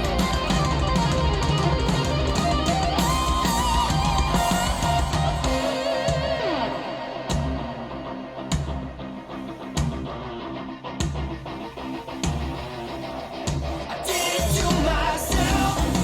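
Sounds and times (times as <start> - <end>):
heavy bass: 0.0 - 12.9, 13.5 - 16.0
electric guitar slide: 0.0 - 16.0
rock song through loudspeakers: 0.0 - 16.0.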